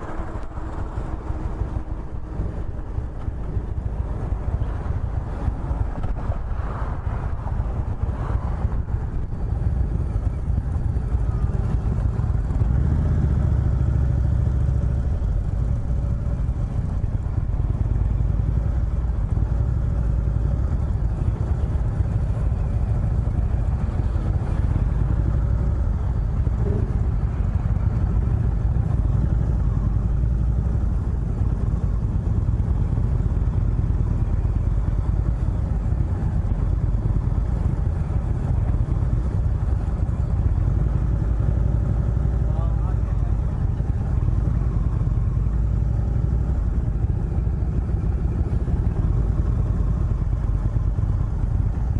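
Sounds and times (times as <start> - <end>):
motorcycle engine rumbling: 0.0 - 51.9.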